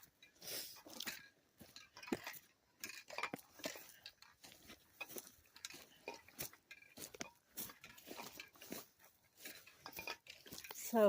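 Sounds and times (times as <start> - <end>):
footsteps crunching on forest floor: 0.0 - 11.0.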